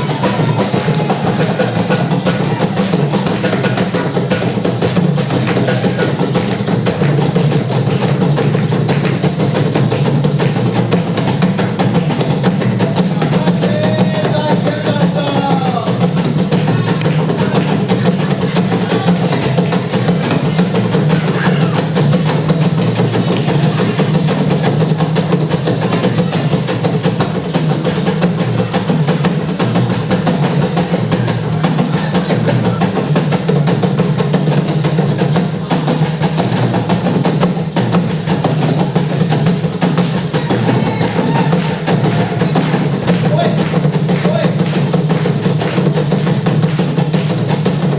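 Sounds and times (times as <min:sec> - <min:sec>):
percussion-heavy music: 0:00.0 - 0:47.9.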